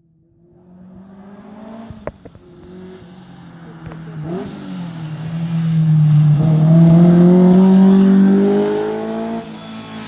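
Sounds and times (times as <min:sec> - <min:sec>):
rally car engine accelerating: 0:00.5 - 0:10.0.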